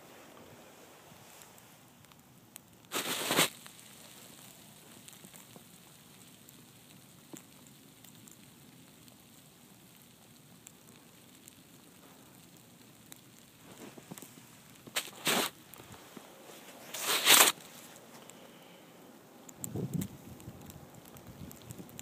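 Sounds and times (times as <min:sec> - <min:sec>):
faint steady hiss: 0:00.0 - 0:22.0
snow ticking: 0:01.1 - 0:18.6, 0:19.4 - 0:22.0.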